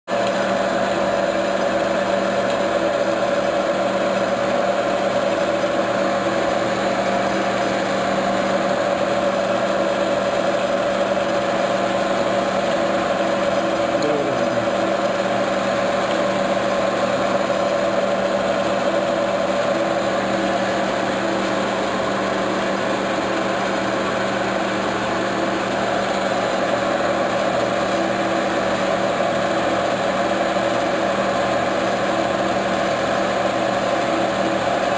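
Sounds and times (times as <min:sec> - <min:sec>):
metal lathe humming: 0:00.1 - 0:34.9.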